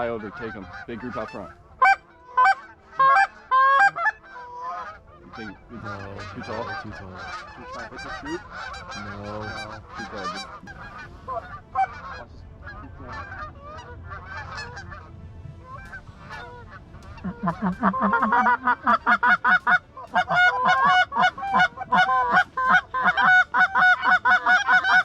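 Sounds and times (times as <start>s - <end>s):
goose honking and clucking: 0.0s - 25.0s.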